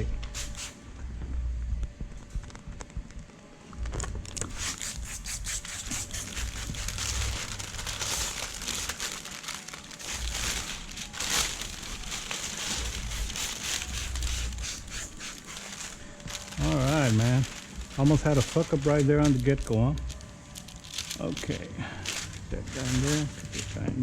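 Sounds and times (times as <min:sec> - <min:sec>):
crinkling and rustling handling: 0:02.1 - 0:24.0.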